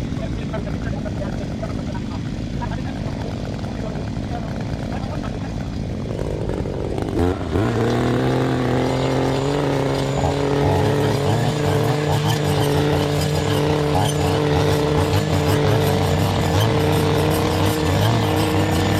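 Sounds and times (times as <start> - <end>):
engine running at high revs: 0.0 - 18.9.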